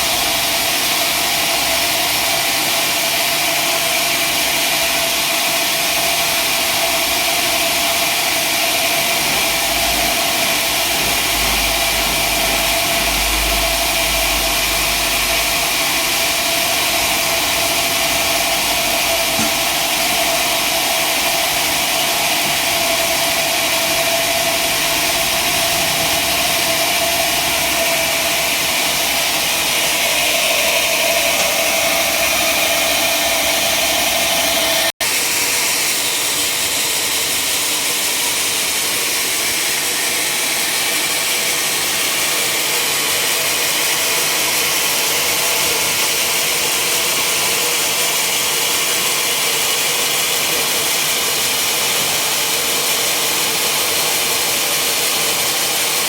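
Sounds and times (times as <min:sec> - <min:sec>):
sawmill machinery whining: 0:00.0 - 0:56.0.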